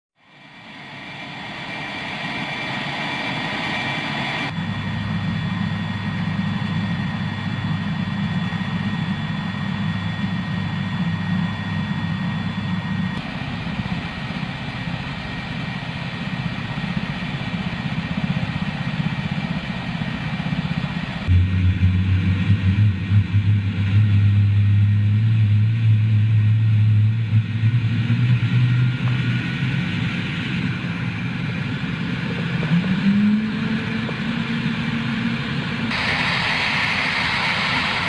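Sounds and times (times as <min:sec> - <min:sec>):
helicopter engine and rotor drone: 0:00.2 - 0:38.0.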